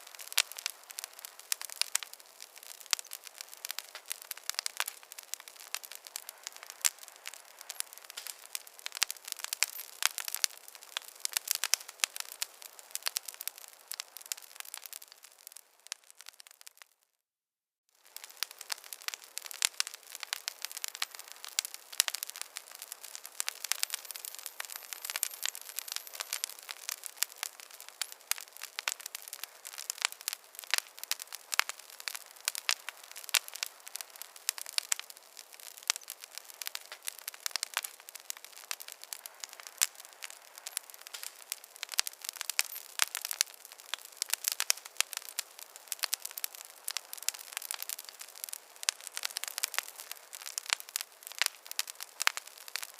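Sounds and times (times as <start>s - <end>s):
wood fire crackling: 0.0s - 17.0s, 18.0s - 52.9s.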